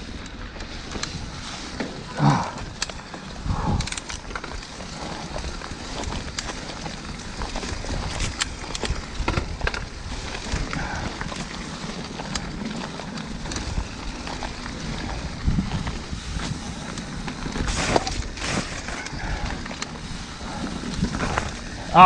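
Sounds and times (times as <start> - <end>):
bike rattles and knocks: 0.0 - 22.0
tyres rolling over dirt trail: 0.0 - 22.0
wind buffeting microphone: 2.4 - 22.0.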